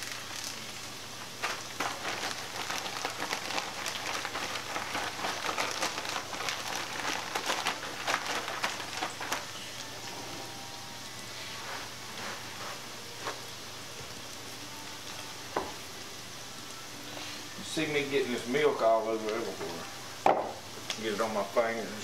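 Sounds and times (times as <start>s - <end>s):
deep frying sizzle with pops: 0.0s - 22.0s.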